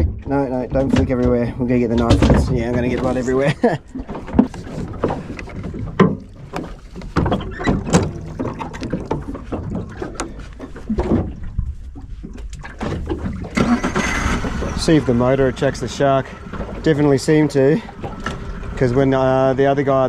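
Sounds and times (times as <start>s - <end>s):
knocks and clunks on a boat: 0.0s - 20.0s
low rumble of wind and water: 0.0s - 20.0s.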